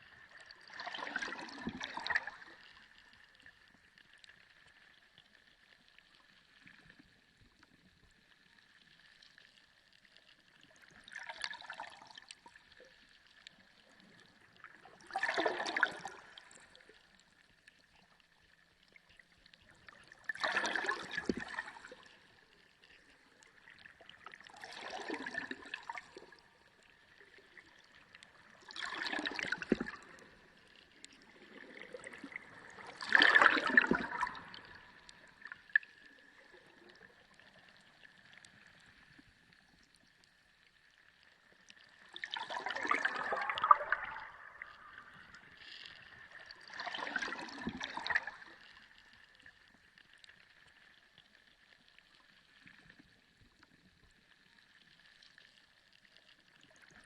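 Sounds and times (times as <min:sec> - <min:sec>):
sea water surging and gurgling: 0:00.0 - 0:57.0.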